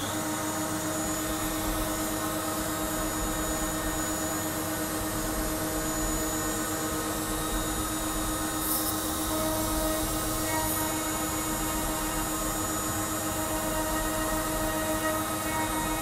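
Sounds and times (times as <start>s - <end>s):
router spindle cutting wood: 0.0s - 16.0s
vacuum cleaner drone: 0.0s - 16.0s.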